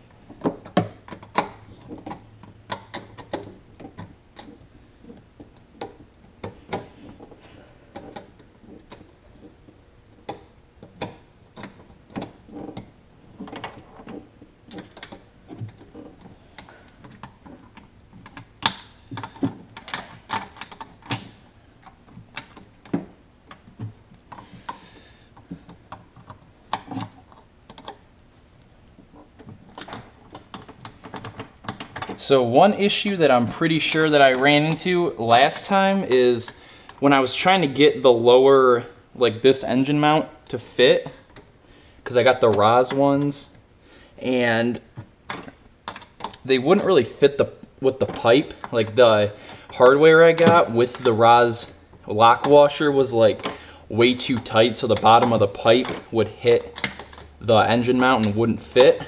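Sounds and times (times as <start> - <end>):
tools clicking and knocking on engine parts: 0.0 - 37.1, 44.8 - 59.0.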